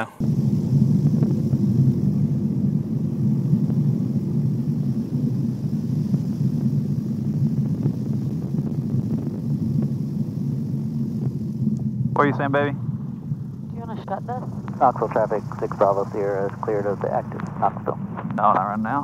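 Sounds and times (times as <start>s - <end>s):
propeller plane engine running: 0.0s - 19.0s.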